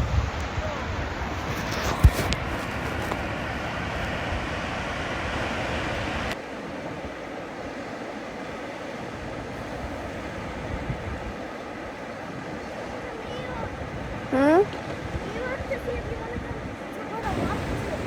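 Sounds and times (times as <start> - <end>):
wind on microphone: 0.0 - 7.9, 8.5 - 18.0
surf on beach: 0.0 - 18.0.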